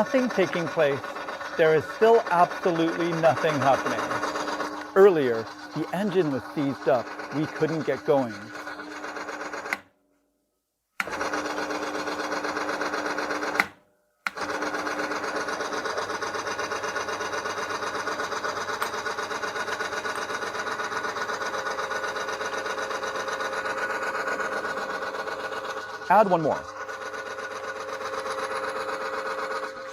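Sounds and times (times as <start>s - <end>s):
friction test bench running: 0.0s - 9.8s, 11.0s - 13.7s, 14.3s - 29.9s.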